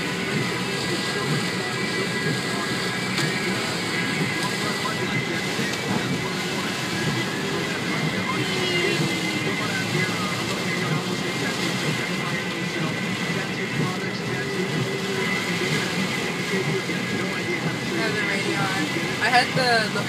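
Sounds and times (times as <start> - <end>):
heavy rain on a car: 0.0 - 20.0.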